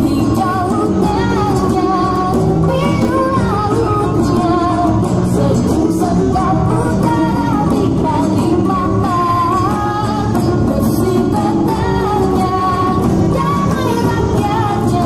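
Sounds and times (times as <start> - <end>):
plucked string accompaniment: 0.0 - 15.0.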